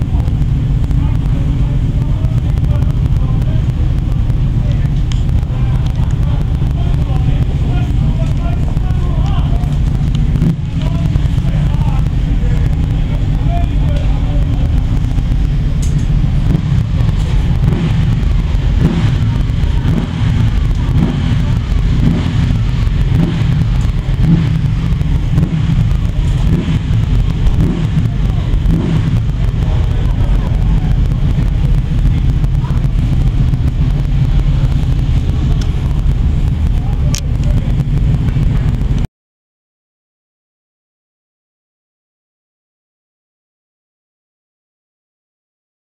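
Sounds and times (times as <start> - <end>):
motorcycle engine idling: 0.0 - 39.1.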